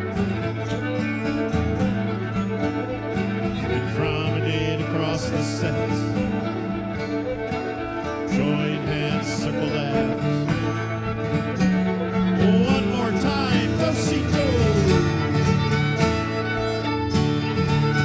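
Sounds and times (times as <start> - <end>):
bass: 0.0 - 18.0
fiddle playing a tune: 0.0 - 18.0
guitar chords: 0.0 - 18.0.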